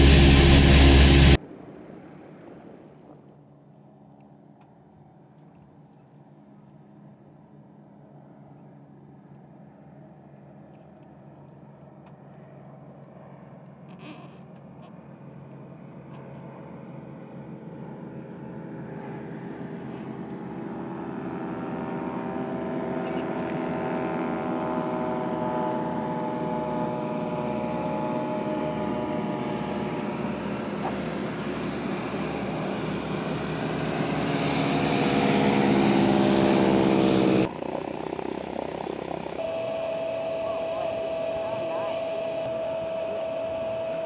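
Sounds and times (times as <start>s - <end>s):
aircraft radial engines running: 0.0s - 1.4s, 2.6s - 44.0s.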